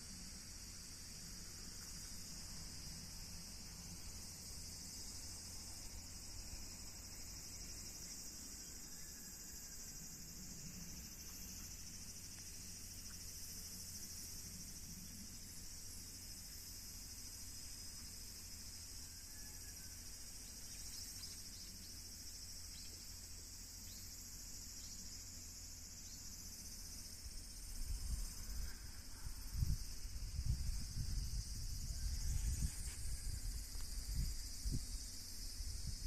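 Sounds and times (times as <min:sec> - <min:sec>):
insects chorus: 0:00.0 - 0:36.0.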